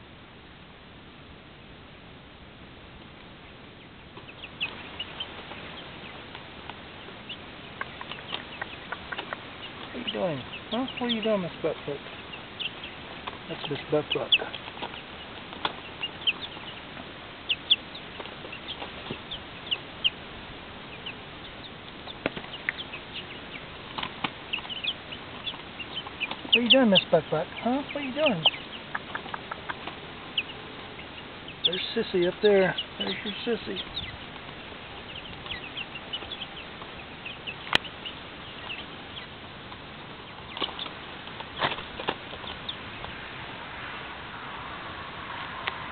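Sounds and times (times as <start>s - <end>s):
chicks peeping: 3.0s - 45.9s.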